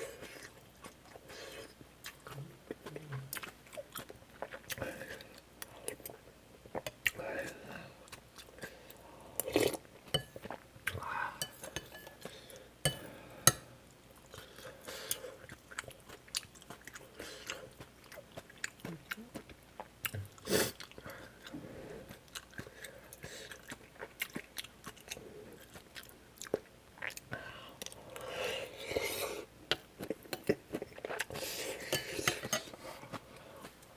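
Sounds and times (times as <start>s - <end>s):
close chewing and eating: 0.0s - 33.9s.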